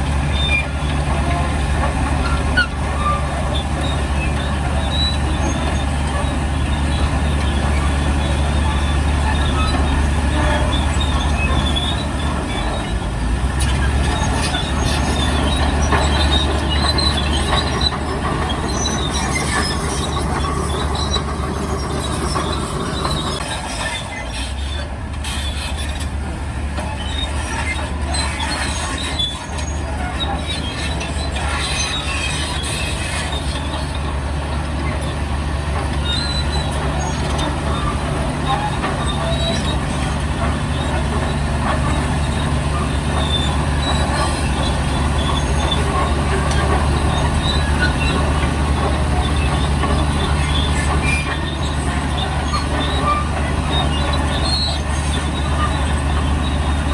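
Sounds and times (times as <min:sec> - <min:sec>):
diesel engine drone: 0:00.0 - 0:56.9
metal tracks squealing and clanking: 0:00.0 - 0:56.9.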